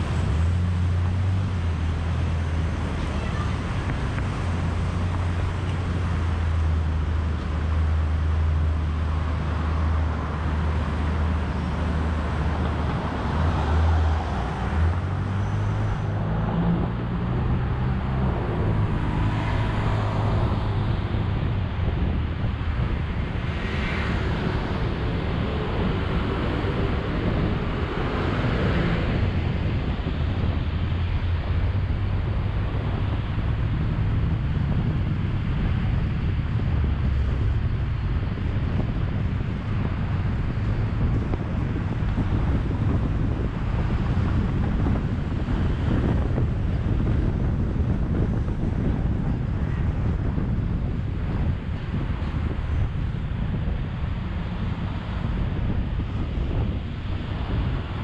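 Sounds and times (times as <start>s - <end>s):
low rumble of traffic: 0.0s - 58.0s
vehicles passing loudly: 0.0s - 58.0s.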